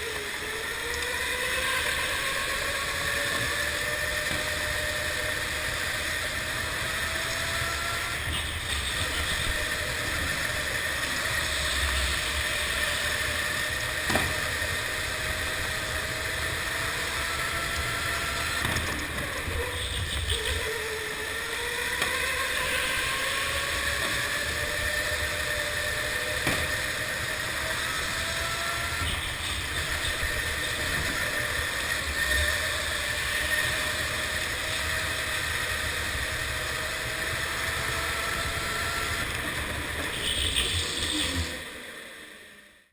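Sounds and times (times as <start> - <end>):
electric motor whine: 0.0 - 42.9.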